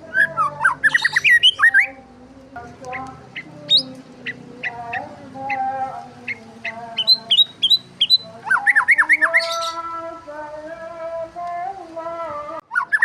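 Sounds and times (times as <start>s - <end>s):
birds chirping and squawking: 0.0s - 10.7s, 12.6s - 13.0s.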